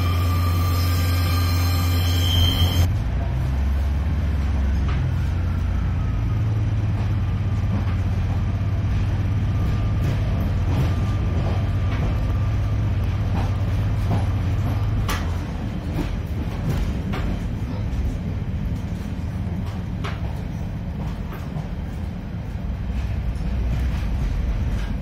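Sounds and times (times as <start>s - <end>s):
train engine drone: 0.0s - 25.0s.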